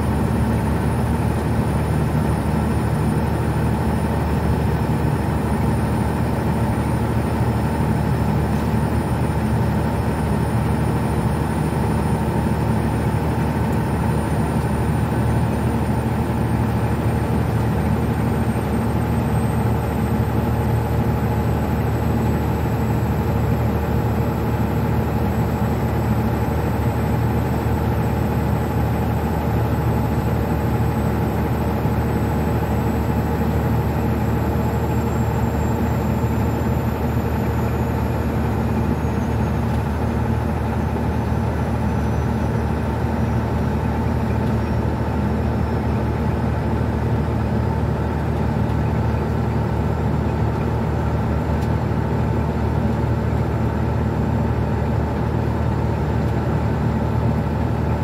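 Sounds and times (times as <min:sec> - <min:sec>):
truck diesel engine drone: 0:00.0 - 0:58.0.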